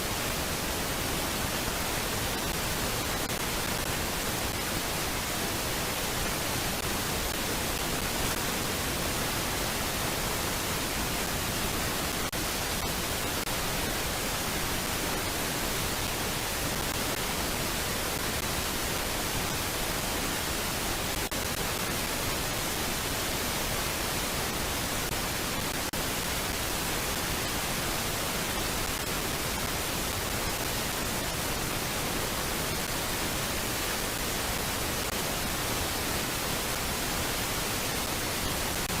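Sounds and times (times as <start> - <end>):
steady static hiss: 0.0 - 39.0.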